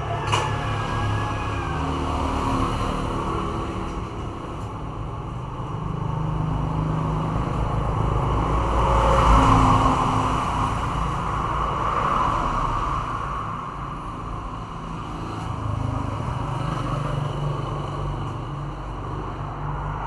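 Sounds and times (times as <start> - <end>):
vehicle engine passing: 0.0 - 20.0.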